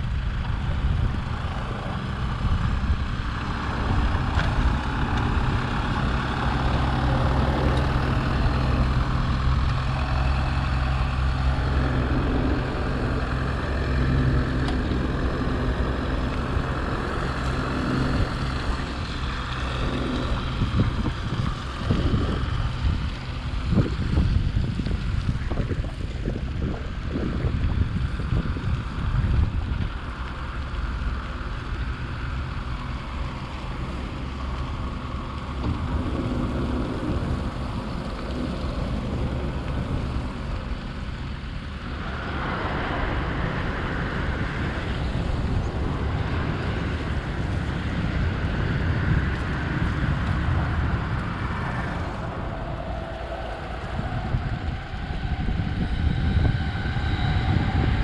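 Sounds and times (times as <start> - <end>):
steady outdoor noise: 0.0 - 58.0
wind buffeting the microphone: 0.0 - 58.0.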